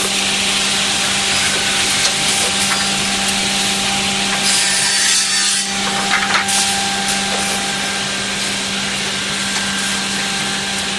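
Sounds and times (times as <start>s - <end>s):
blades cutting through wood: 0.0s - 10.9s
machine humming: 0.0s - 10.9s.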